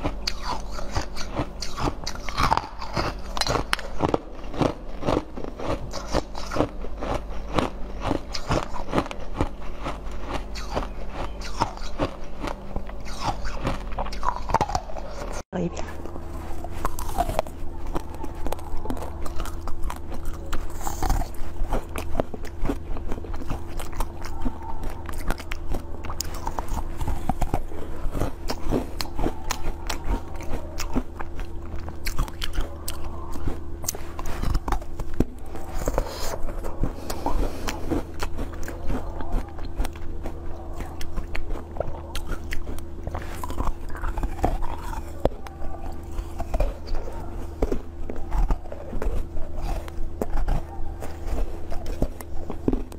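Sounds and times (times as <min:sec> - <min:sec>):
chewing strawberries: 0:00.0 - 0:52.9
low hum: 0:00.0 - 0:52.9.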